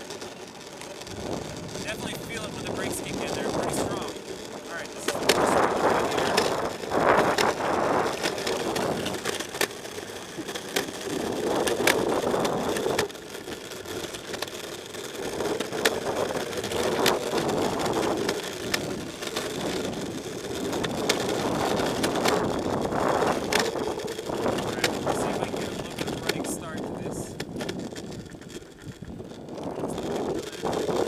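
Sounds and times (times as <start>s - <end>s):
grit clicks and crackles: 0.0s - 31.0s
skateboard wheels rolling on asphalt: 0.0s - 31.0s.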